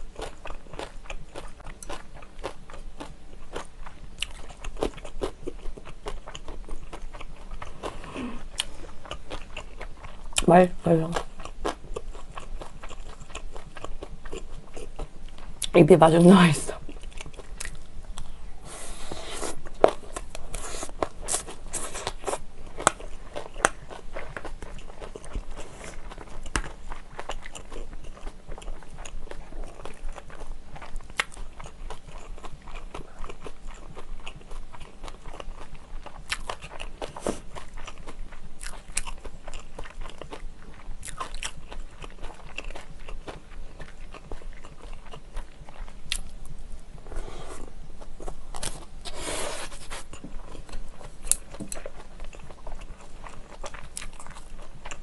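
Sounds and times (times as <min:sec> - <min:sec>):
close chewing and crunching: 0:00.0 - 0:55.0.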